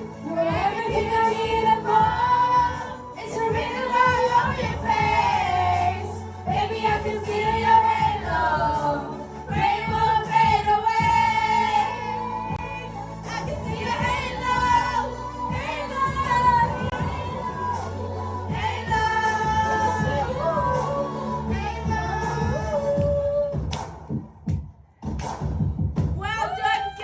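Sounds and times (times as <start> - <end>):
woman singing karaoke: 0.0 - 23.6, 26.2 - 27.0
pop backing track: 0.0 - 26.4.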